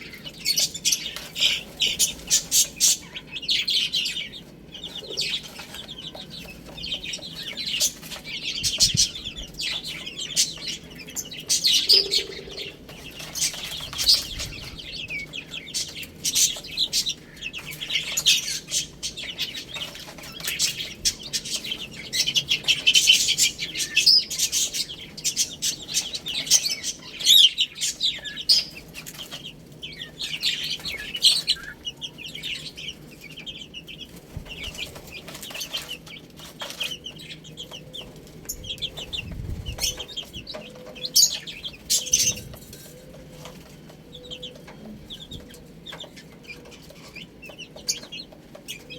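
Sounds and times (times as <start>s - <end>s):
baby chicks peeping: 0.0s - 48.9s.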